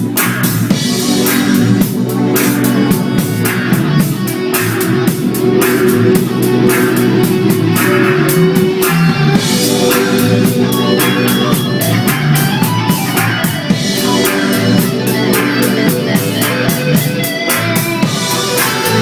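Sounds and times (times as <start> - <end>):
drum kit steady beat: 0.0 - 19.0
guitar: 0.0 - 19.0.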